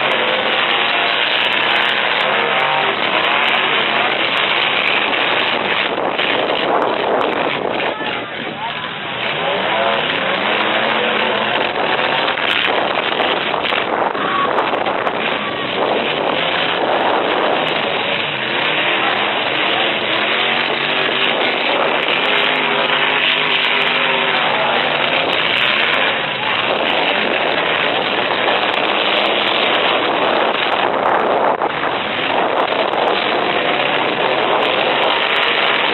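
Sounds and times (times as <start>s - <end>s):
truck engines revving: 0.0s - 35.9s.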